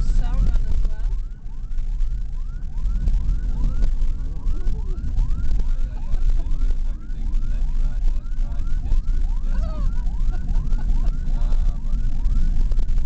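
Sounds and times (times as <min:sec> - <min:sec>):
car engine rumble: 0:00.0 - 0:13.0
police siren: 0:00.0 - 0:13.0
tyres on rough road: 0:00.0 - 0:13.0.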